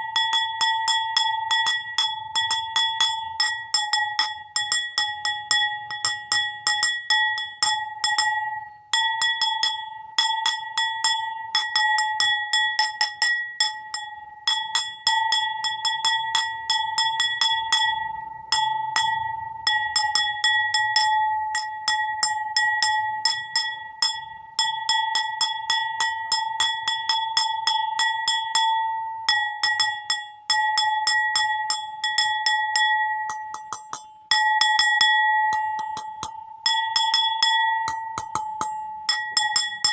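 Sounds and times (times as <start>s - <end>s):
bowl tapped ringing: 0.0s - 39.9s.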